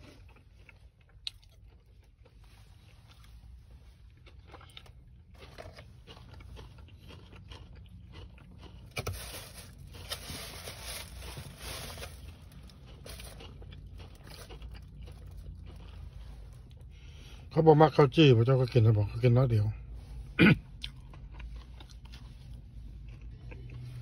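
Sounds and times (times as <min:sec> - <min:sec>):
chewing and crunching food: 0:00.0 - 0:24.0
low steady rumble: 0:00.0 - 0:24.0.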